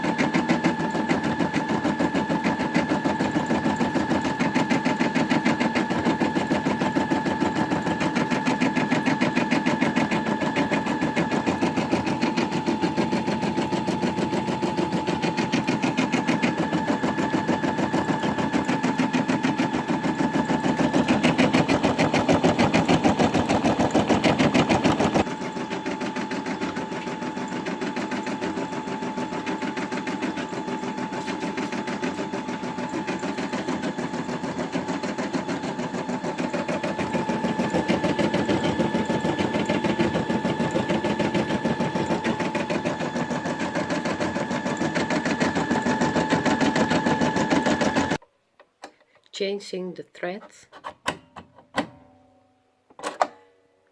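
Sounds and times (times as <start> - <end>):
embroidery machine stitching: 0.0 - 48.2
machine motor whine: 0.2 - 48.2.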